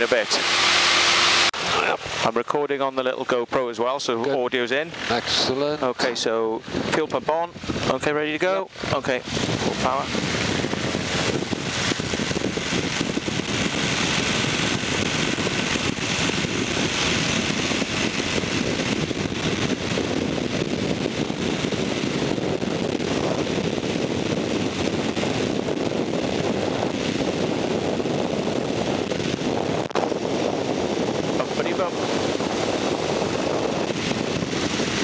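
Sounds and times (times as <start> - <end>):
aircraft engine and propeller drone: 0.0 - 35.0.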